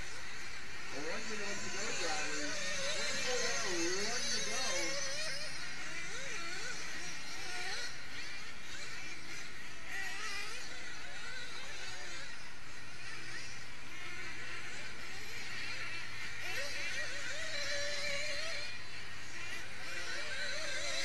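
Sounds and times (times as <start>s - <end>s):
model car engines buzzing: 0.0s - 21.0s.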